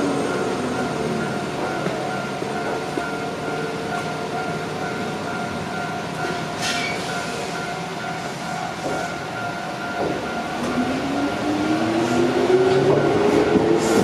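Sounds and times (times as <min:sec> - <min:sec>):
electric train passing on rails: 0:00.0 - 0:14.0.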